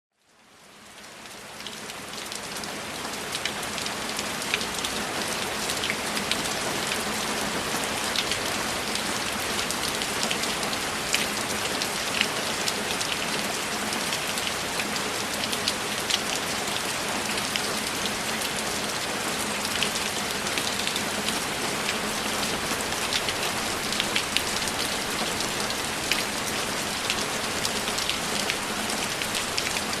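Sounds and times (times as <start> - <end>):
rain on a window: 0.2 - 30.0.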